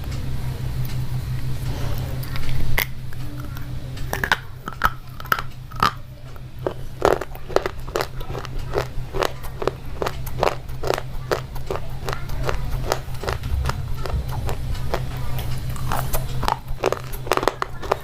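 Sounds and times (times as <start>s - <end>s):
pencil being chewed crunching: 2.2s - 18.0s.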